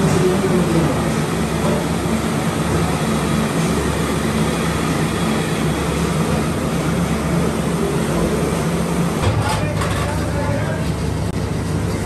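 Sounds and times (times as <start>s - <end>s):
kitchen machinery roar: 0.0s - 12.0s.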